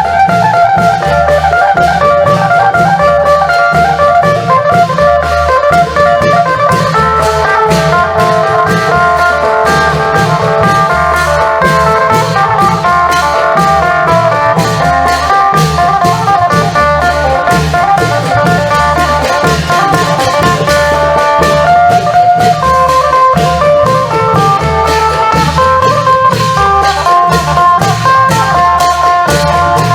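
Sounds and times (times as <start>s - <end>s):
drums and percussion beat: 0.0s - 29.9s
plucked lute melody: 0.4s - 29.9s.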